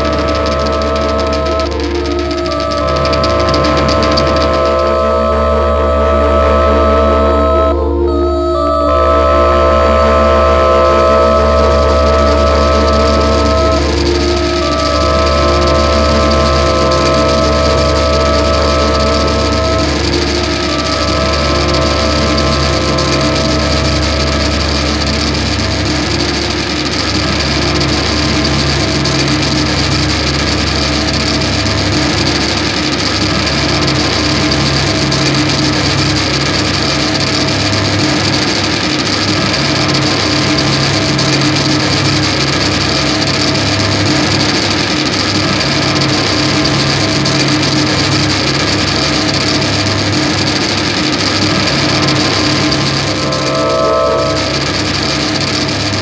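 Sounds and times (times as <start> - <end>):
hissing noise: 0.0 - 35.6, 39.6 - 56.0
held feedback pitches: 0.0 - 56.0
loudspeaker feedback drone: 0.0 - 56.0.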